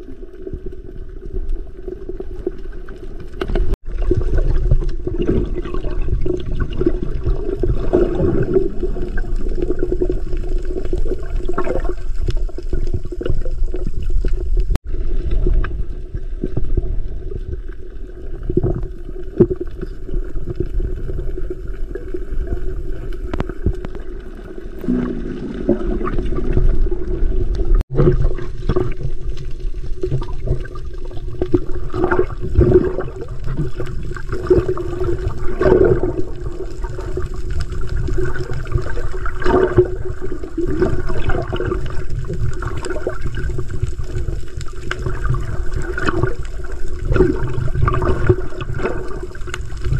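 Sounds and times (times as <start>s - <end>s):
underwater gurgling wash: 0.0s - 49.9s.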